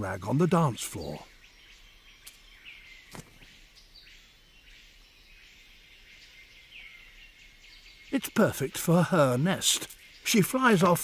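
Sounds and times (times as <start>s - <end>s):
distant bird calls: 0.0s - 11.0s.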